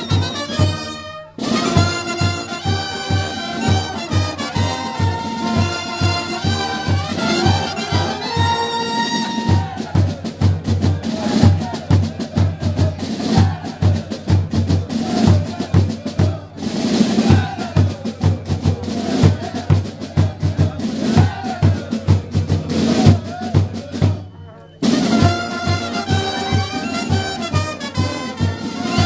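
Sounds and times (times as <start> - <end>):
brass tune: 0.0 - 29.0
snare and bass drums marching beat: 0.0 - 29.0.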